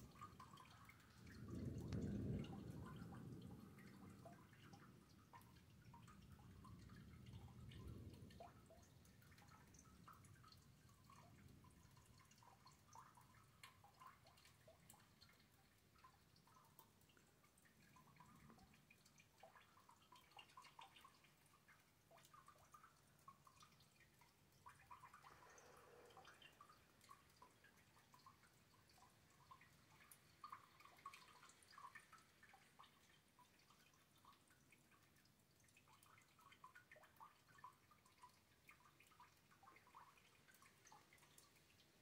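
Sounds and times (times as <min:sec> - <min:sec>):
rain drops dripping: 0:00.0 - 0:42.0.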